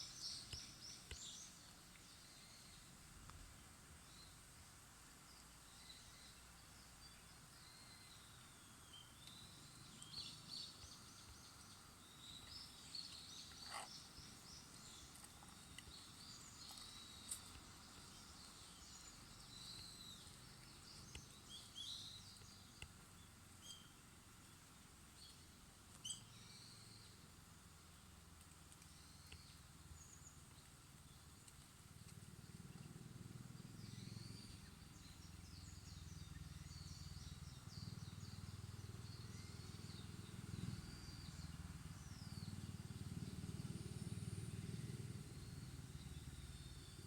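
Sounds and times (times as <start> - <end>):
faint birdsong: 0.0 - 47.0
low steady outdoor hiss: 0.0 - 47.0.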